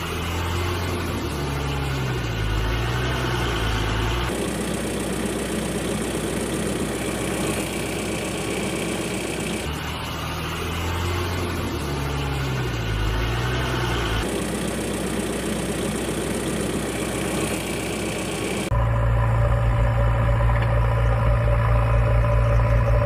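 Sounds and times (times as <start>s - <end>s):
deeper engine hum wavering: 0.0s - 23.0s
engine idling: 0.0s - 23.0s.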